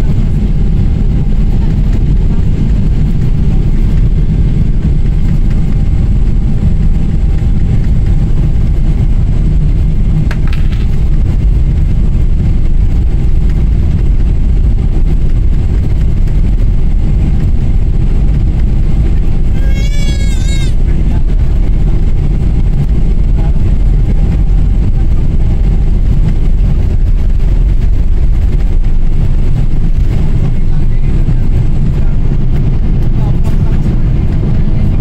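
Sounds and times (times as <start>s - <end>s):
jet engines low rumble: 0.0s - 35.0s.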